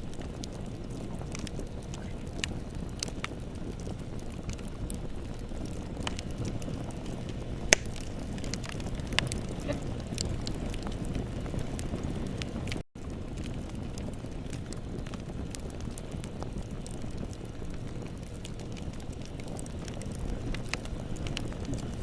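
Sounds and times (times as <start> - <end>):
bonfire crackling: 0.0 - 22.0.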